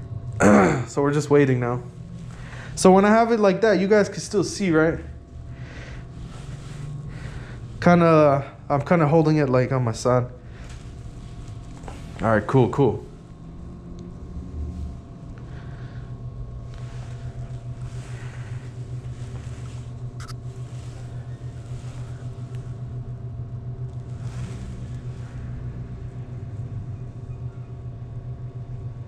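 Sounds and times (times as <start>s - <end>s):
mechanical hum with flutter: 0.0s - 29.0s
faint rustling: 1.8s - 23.1s, 23.8s - 27.0s.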